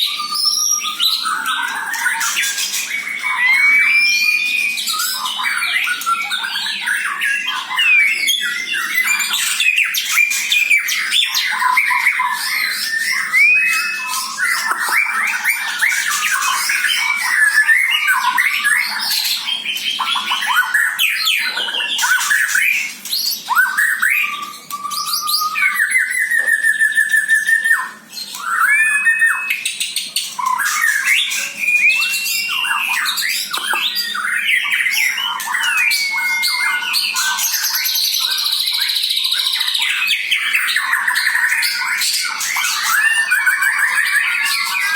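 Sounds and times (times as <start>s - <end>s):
songbird singing whistled song: 0.0s - 44.9s.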